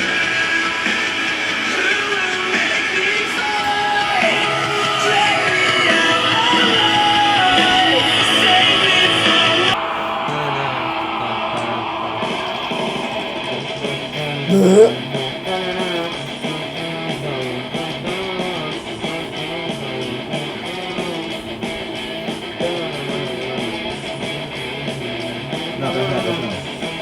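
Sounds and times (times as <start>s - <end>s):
pop music from portable speaker: 0.0s - 27.0s.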